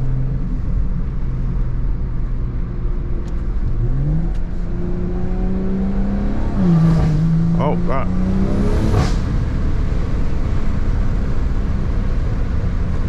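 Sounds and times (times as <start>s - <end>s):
low road rumble: 0.0s - 13.0s.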